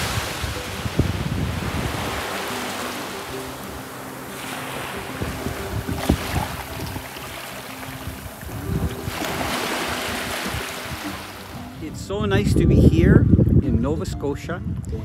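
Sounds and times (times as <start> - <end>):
wind buffeting microphone: 0.0 - 4.1, 4.8 - 15.0
surf washing up beach: 0.0 - 12.2.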